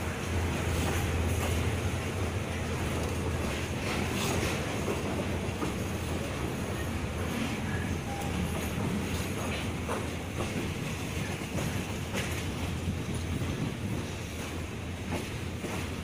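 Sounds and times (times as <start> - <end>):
train wheels rumbling: 0.0 - 16.0
wheels clicking on track: 0.2 - 16.0.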